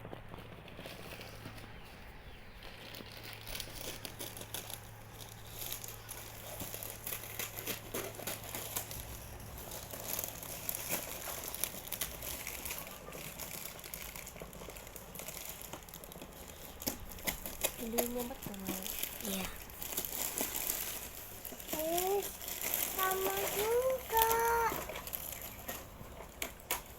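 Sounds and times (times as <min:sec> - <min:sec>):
packaging crinkling and rustling: 0:00.0 - 0:26.9.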